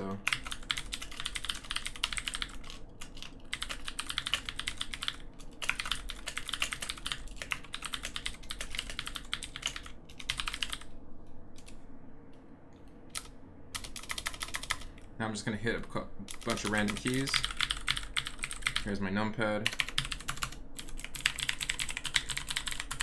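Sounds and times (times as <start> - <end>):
mechanical keyboard typing: 0.0 - 10.9, 13.2 - 14.9, 16.3 - 18.9, 19.6 - 23.0.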